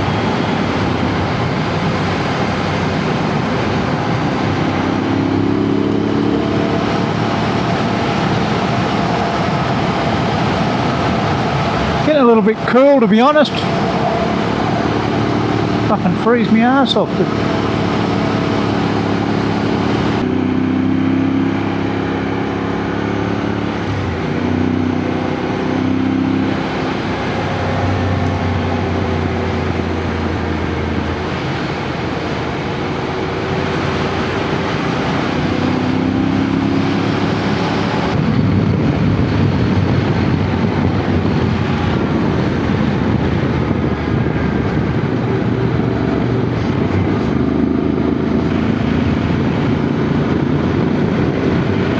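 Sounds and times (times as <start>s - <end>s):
motorcycle engine: 0.0s - 51.9s
wind and road noise: 0.0s - 51.9s.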